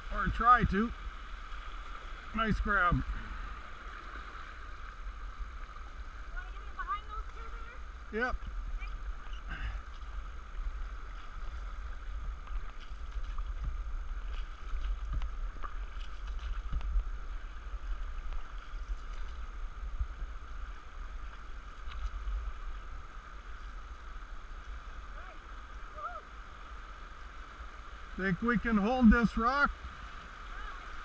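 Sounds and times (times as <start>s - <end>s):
paddle splashing in water: 0.0s - 27.6s.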